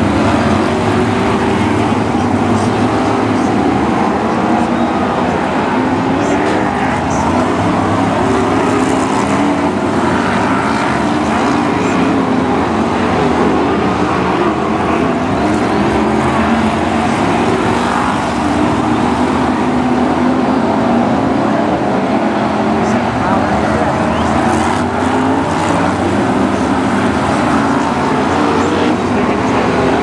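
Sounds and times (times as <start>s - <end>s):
stock car engines racing: 0.0s - 30.0s.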